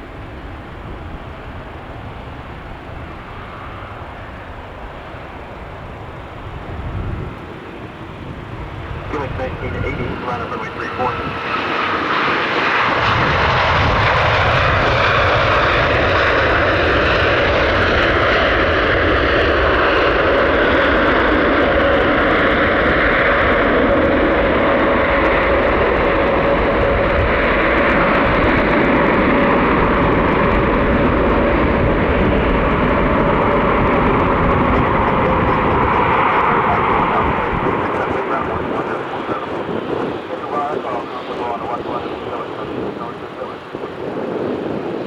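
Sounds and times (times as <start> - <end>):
jet engines roaring with whine: 0.0 - 45.0.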